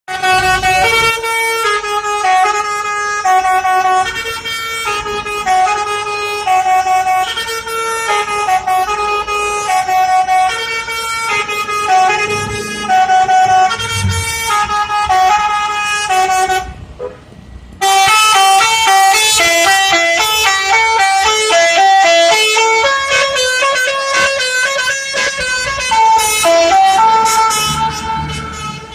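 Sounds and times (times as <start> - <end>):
multi-tone musical bus horn: 0.1 - 28.9.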